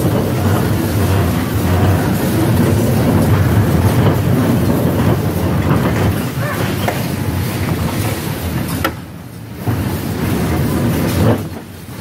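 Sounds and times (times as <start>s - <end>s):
bumper car rumbling: 0.0s - 12.0s.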